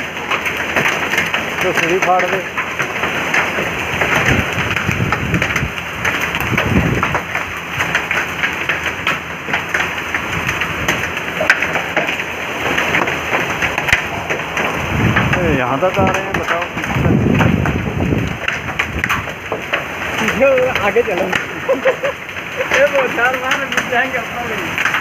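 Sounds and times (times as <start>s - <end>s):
hailstones striking wet paving: 0.0s - 25.0s
heavy rain downpour: 0.0s - 25.0s.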